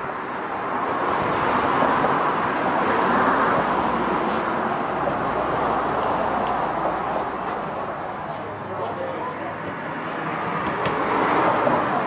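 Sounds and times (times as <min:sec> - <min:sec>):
vehicle passing: 0:00.3 - 0:12.0.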